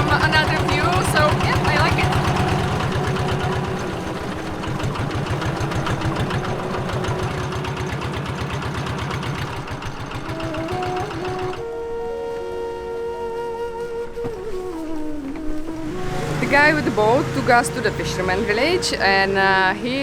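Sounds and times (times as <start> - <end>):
boat engine knocking: 0.0 - 11.7, 15.6 - 20.0
faint musical tones: 0.0 - 20.0.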